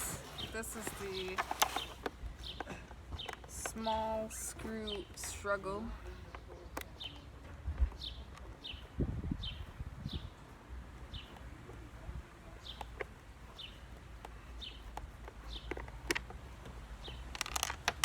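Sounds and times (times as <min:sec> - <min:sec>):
small bird chirping: 0:00.0 - 0:17.8.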